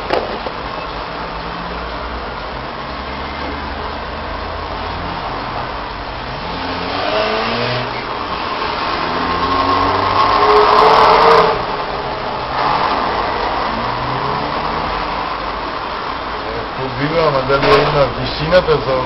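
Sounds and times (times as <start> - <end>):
vehicle engine revving: 0.0 - 16.4.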